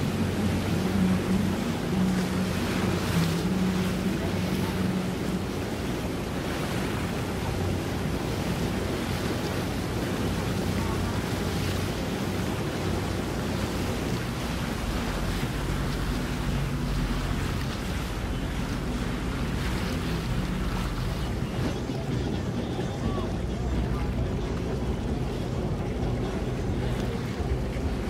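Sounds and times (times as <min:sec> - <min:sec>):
boat engine hum: 0:00.0 - 0:28.0
higher engine hum: 0:00.0 - 0:28.0
wind and water: 0:00.0 - 0:28.0.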